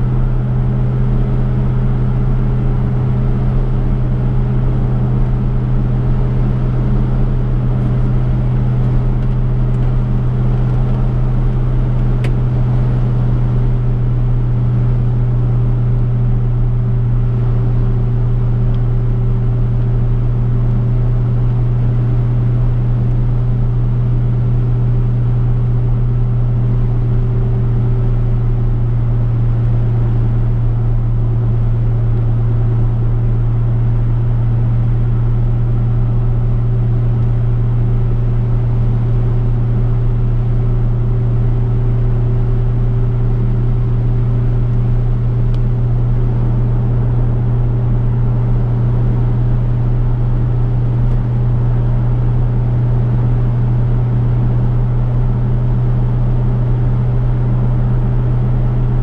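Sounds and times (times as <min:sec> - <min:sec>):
car engine droning: 0:00.0 - 0:59.0
low road rumble: 0:00.0 - 0:59.0.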